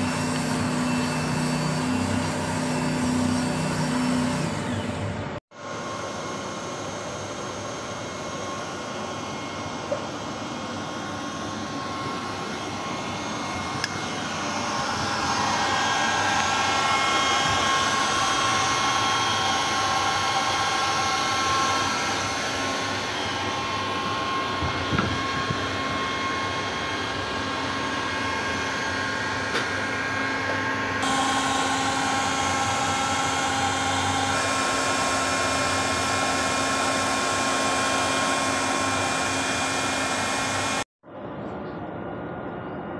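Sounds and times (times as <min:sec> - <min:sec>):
machine whirring with whining tones: 0:00.0 - 0:42.9.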